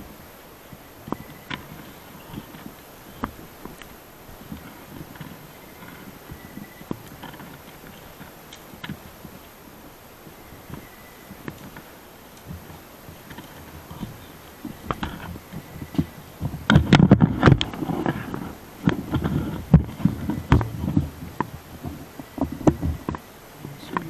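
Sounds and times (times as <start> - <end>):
low thumps of footsteps: 0.0 - 24.0
rustling of dry brush: 0.0 - 24.0.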